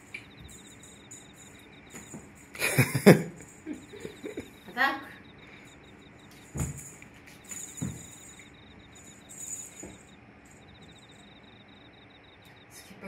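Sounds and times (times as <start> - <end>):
insects chirping trill: 0.0 - 13.0.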